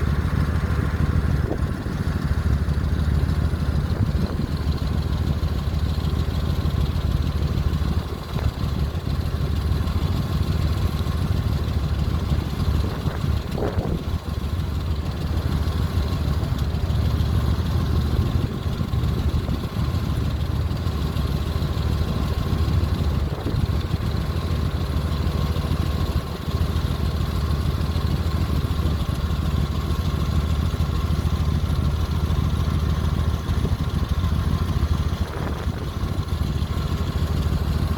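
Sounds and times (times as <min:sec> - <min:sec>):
ship engine rumble: 0:00.0 - 0:37.9.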